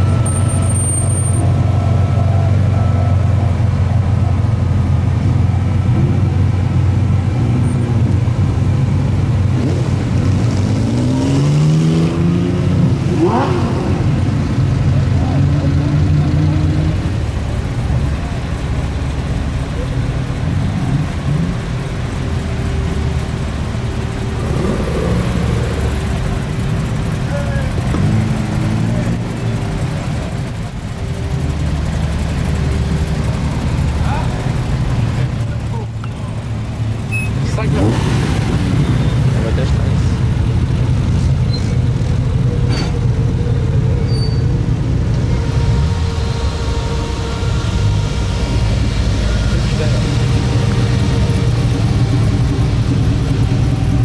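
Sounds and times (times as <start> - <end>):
car engine running at low revs: 0.0 - 54.0.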